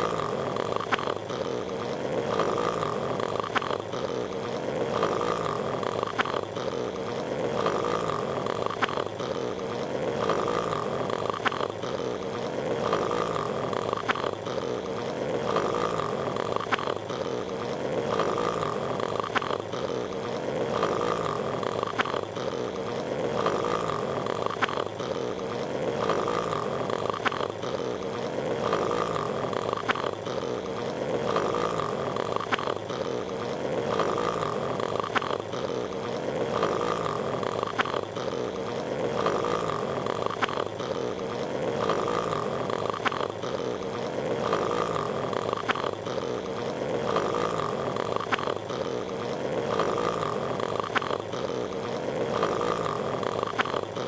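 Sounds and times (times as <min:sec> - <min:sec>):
cartoon snore: 0:00.0 - 0:54.0
steady noisy background: 0:00.0 - 0:54.0.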